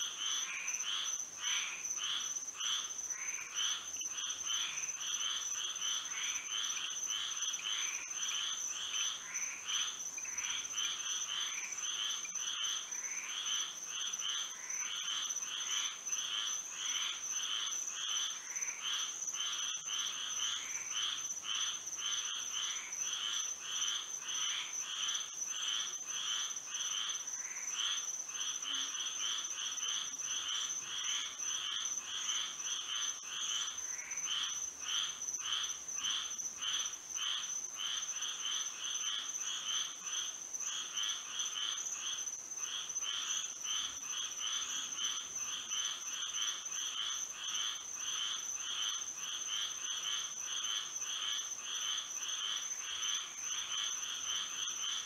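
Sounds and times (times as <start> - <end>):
frogs calling: 0.0 - 55.0.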